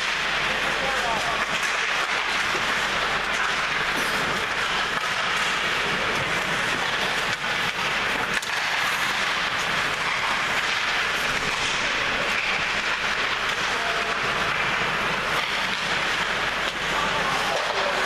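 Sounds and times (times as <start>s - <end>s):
hockey sticks and puck clacking: 0.0s - 18.0s
skate blades scraping on ice: 0.0s - 18.0s.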